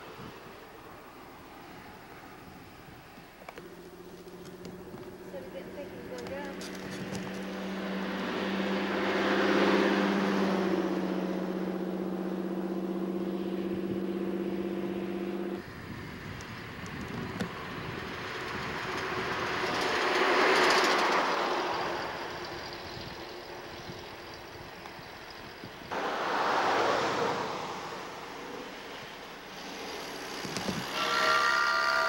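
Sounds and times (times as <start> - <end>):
cars driving past: 0.0 - 32.0.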